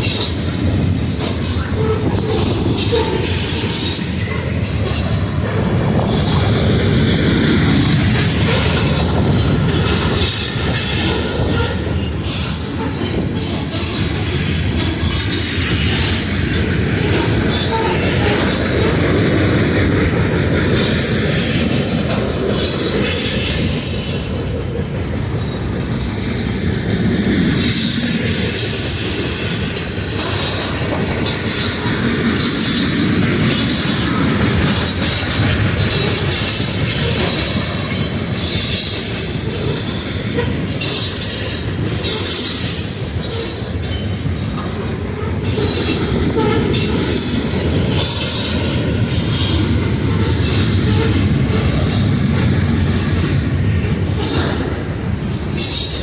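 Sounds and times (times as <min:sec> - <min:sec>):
high wheel squeal: 0:00.0 - 0:05.0, 0:07.8 - 0:16.3, 0:17.0 - 0:19.0, 0:22.3 - 0:24.5, 0:25.4 - 0:52.1, 0:54.1 - 0:56.0
freight train rumbling: 0:00.0 - 0:56.0.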